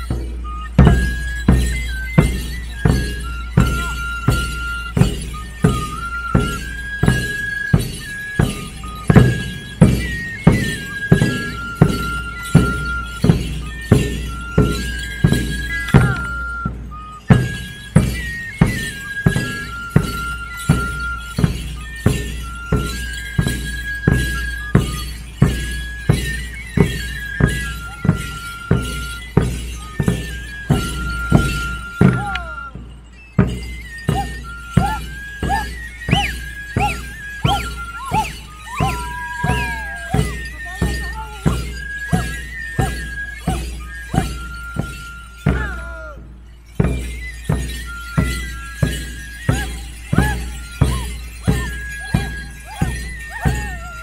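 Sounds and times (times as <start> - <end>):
large drums beating: 0.0 - 44.9
high flute melody: 0.0 - 54.0.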